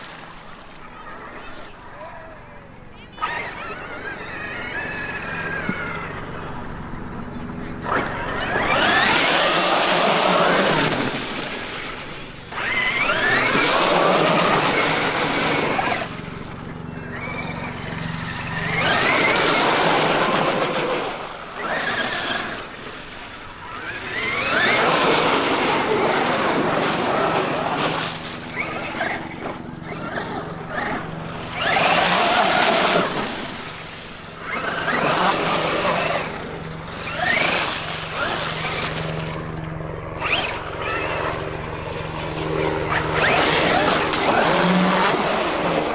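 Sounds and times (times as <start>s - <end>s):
tyre and drivetrain noise: 1.4s - 45.9s
electric motor whining: 3.0s - 45.9s.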